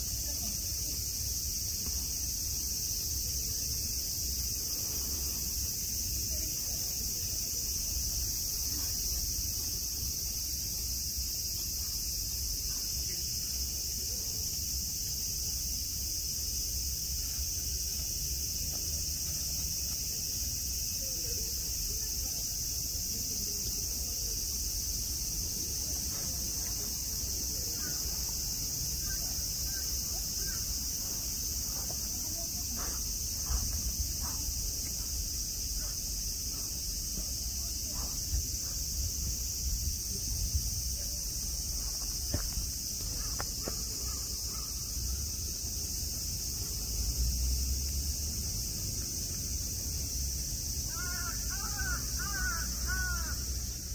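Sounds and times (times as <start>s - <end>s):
cicadas shrilling: 0.0s - 53.9s.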